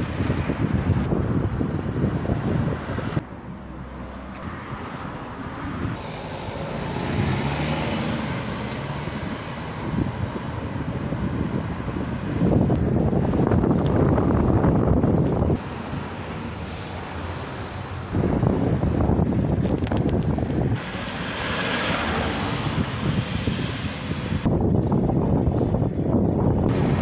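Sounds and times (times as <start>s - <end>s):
cars passing: 0.0s - 27.0s
wind rumbling on microphone: 0.0s - 27.0s.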